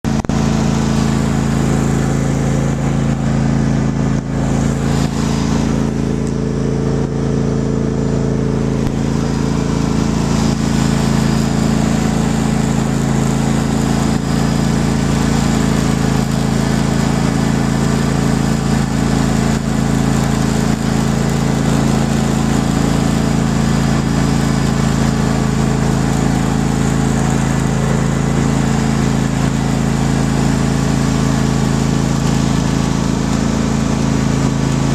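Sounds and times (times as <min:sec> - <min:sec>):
engine running steadily: 0:00.0 - 0:34.9.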